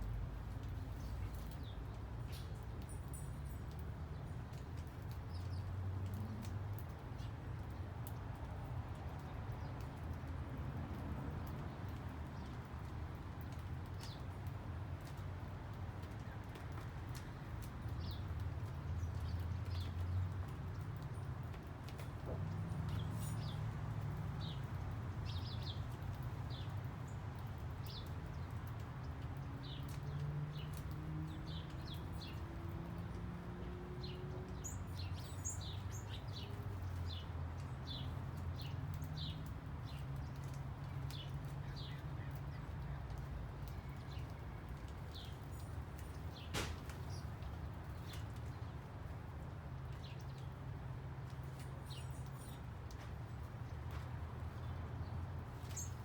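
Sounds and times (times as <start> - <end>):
small birds chirping: 0.4 - 10.1, 11.4 - 14.4, 16.0 - 56.0.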